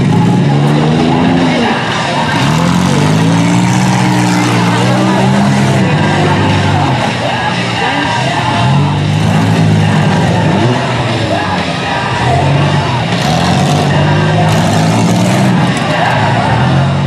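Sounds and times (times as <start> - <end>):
car engines revving: 0.0 - 17.0
loud rock music: 0.0 - 17.0.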